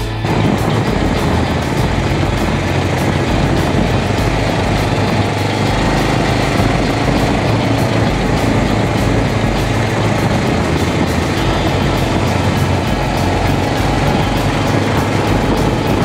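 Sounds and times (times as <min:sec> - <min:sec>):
motorcycle engine running: 0:00.0 - 0:16.0
wind noise rushing: 0:00.0 - 0:16.0.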